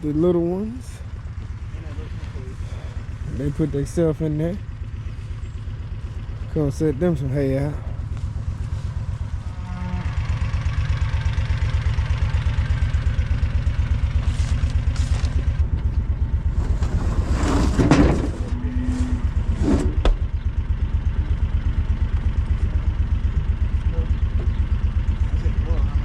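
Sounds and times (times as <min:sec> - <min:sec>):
farm vehicle engine idling: 0:00.0 - 0:26.0.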